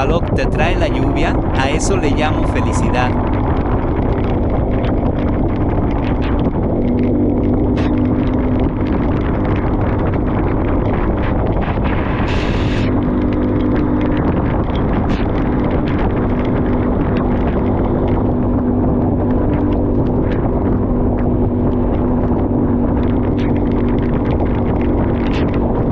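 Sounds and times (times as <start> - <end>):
vehicle engine running: 0.0 - 25.9
wind on microphone: 0.0 - 25.9.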